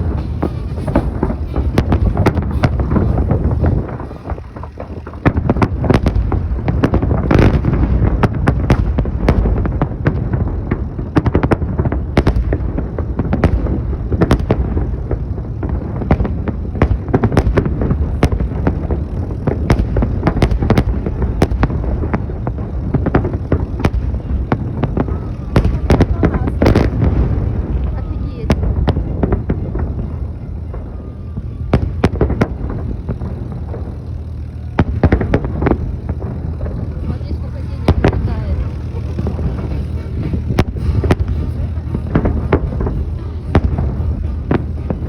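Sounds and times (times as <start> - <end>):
fireworks bangs and crackles: 0.0 - 45.0
low rumble: 0.0 - 45.0.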